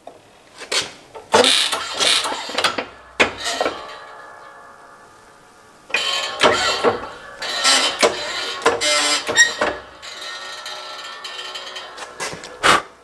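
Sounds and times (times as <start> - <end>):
metal scraping and knocking: 0.6 - 13.0
ringing metal tones: 1.2 - 13.0.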